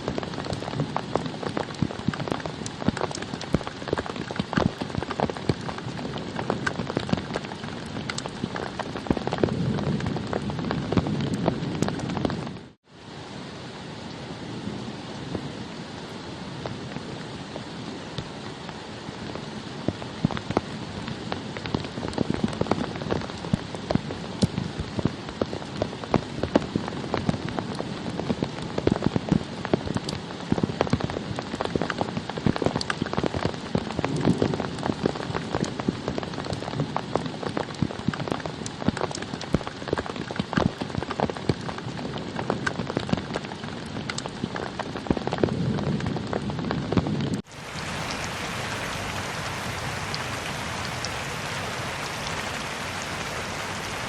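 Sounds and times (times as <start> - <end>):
raindrops striking a surface: 0.0 - 12.8, 14.1 - 54.0
steady rain hiss: 0.0 - 54.0.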